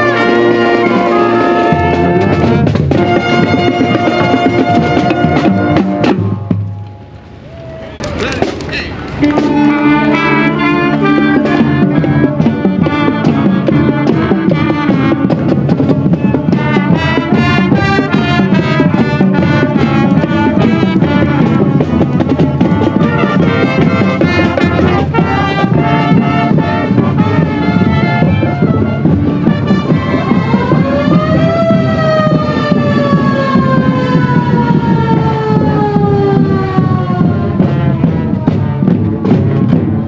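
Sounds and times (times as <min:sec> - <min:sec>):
steady drum beat: 0:00.0 - 0:06.8, 0:08.2 - 0:40.0
brass section playing: 0:00.0 - 0:07.4, 0:08.0 - 0:40.0.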